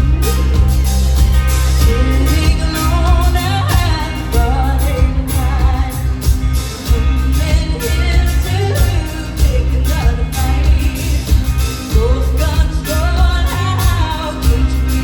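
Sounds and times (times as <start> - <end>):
heavy bass line: 0.0 - 15.0
lead singer singing: 0.0 - 15.0
live rock band playing: 0.0 - 15.0.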